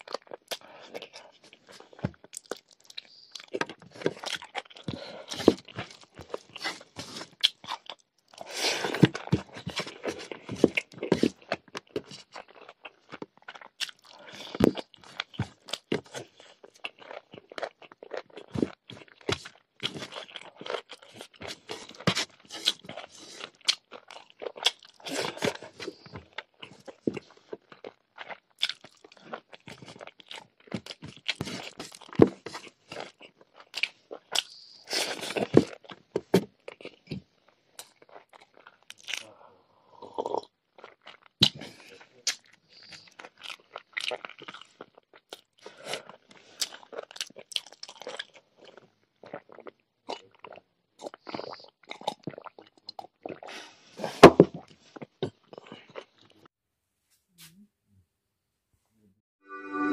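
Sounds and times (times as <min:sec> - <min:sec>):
person crunching and chewing food: 0:00.0 - 0:56.5.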